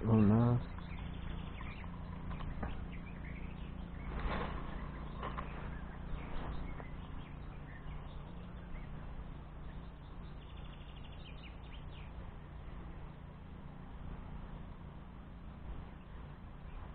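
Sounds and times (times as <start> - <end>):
faint bird chirps: 0.0 - 16.9.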